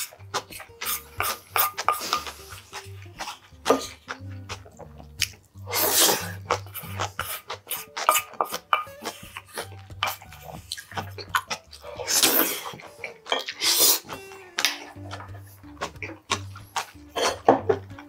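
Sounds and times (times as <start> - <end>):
spoon scraping metal bowl: 0.0 - 4.2, 5.7 - 17.9
slurping: 0.0 - 18.0
wet chewing: 0.0 - 18.0.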